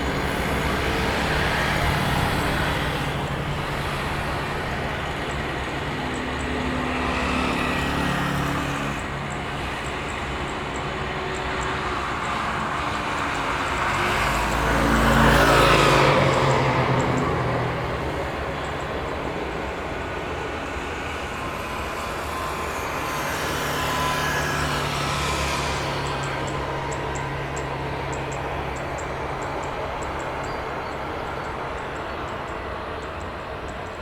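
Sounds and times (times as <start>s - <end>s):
airport noise: 0.0s - 34.0s
traffic rumble: 0.0s - 34.0s
vehicle passing close by: 0.0s - 34.0s.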